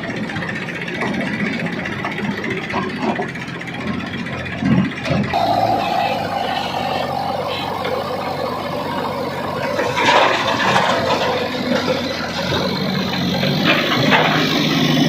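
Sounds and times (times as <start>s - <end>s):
heavy machinery diesel engine: 0.0s - 15.0s.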